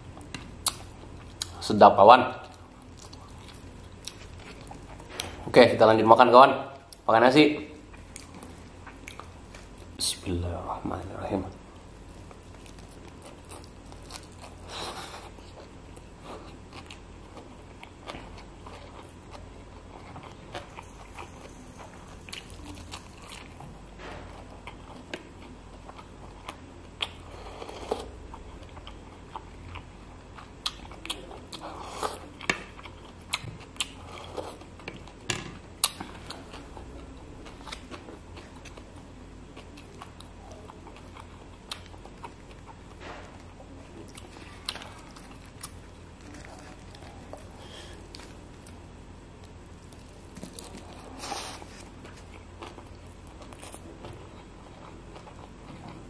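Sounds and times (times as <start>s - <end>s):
person chewing: 0.1s - 1.7s, 2.4s - 5.5s, 7.8s - 9.9s, 11.5s - 48.8s, 49.4s - 56.0s.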